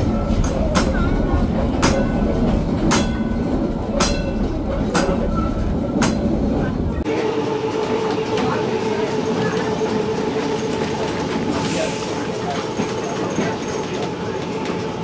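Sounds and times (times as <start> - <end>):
trolley car rumbling: 0.0 - 15.0.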